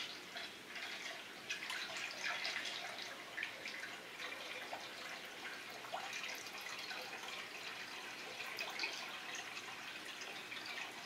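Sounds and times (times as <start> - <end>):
liquid pouring through a funnel: 0.0 - 11.0.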